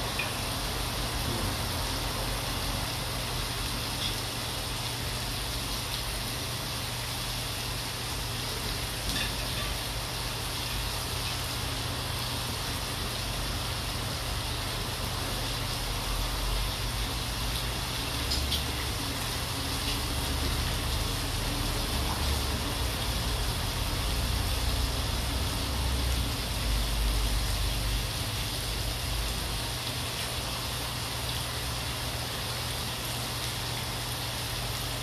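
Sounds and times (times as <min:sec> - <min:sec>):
meat sizzling on a grill pan: 0:00.0 - 0:35.0.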